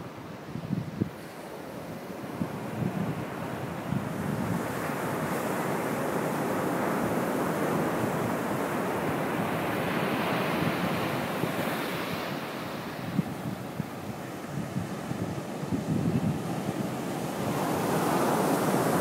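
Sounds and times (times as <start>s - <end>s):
ocean surf washing up beach: 0.0s - 19.0s
wind buffeting microphone: 0.4s - 1.3s, 2.0s - 19.0s.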